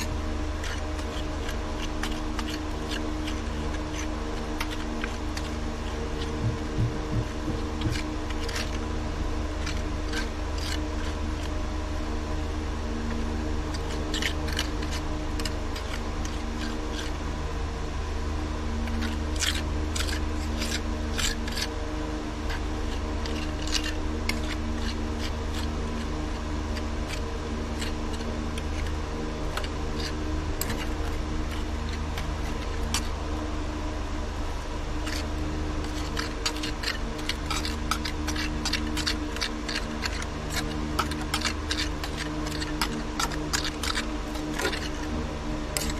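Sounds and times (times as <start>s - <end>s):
steel tool scraping mortar: 0.0s - 8.9s, 9.5s - 11.6s, 13.1s - 17.2s, 18.8s - 21.8s, 22.5s - 33.2s, 35.0s - 45.2s
low mechanical hum: 0.0s - 45.9s.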